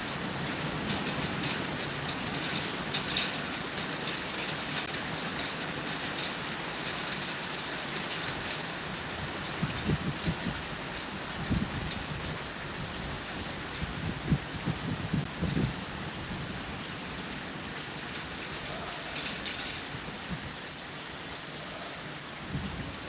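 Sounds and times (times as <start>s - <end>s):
heavy rain: 0.0s - 23.0s
rain drops ticking on surface: 0.0s - 23.0s.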